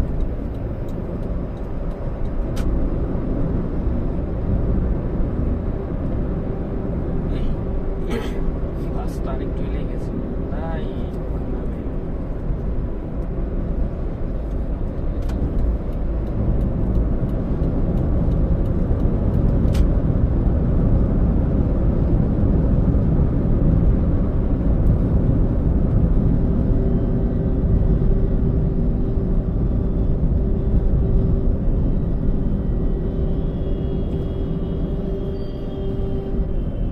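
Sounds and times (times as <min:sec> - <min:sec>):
car engine and road rumble: 0:00.0 - 0:36.9.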